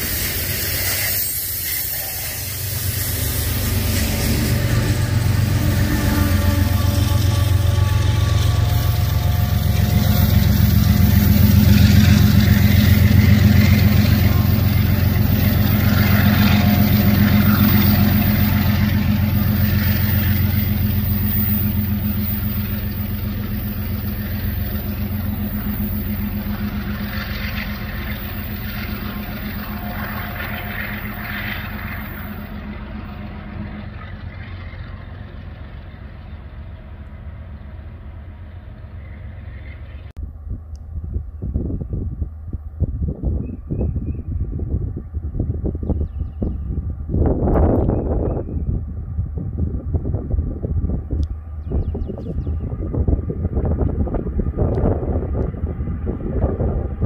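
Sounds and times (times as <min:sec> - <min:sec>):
diesel engine drone: 0:00.0 - 0:57.0
rolling train cars: 0:00.0 - 0:57.0.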